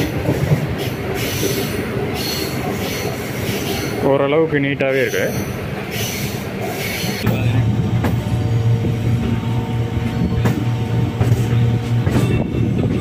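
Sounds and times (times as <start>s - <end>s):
electric train humming: 0.0s - 13.0s
train clacks: 0.0s - 13.0s.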